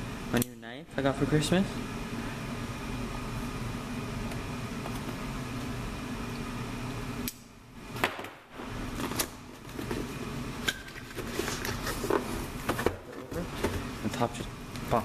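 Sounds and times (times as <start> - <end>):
space heater fan hum: 0.0 - 15.0.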